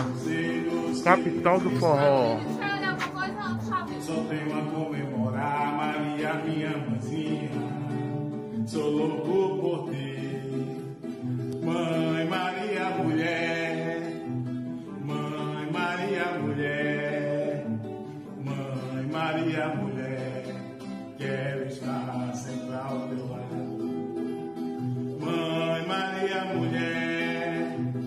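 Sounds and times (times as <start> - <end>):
song with instrumental accompaniment: 0.0 - 28.0.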